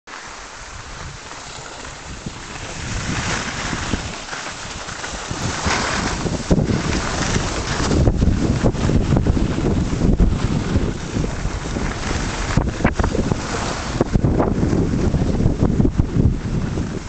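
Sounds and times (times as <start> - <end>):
skis sliding over snow: 0.1 - 17.0
wind buffeting microphone: 0.6 - 17.0.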